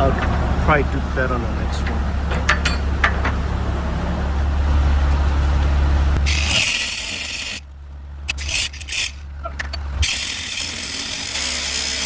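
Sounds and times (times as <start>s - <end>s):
angle grinder grinding steel: 0.0s - 4.7s, 6.2s - 7.7s, 8.3s - 12.0s
steady low hum: 0.0s - 12.0s.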